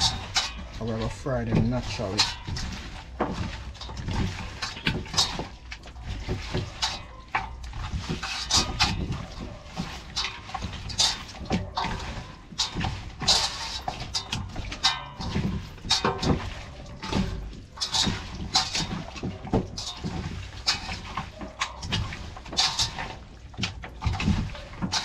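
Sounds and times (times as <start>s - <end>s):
hands squelching raw chicken: 0.0s - 25.0s.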